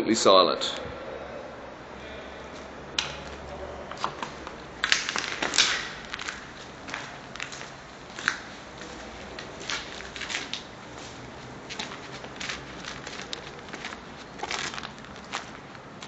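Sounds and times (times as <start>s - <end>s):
footsteps crunching on debris: 2.5s - 16.0s.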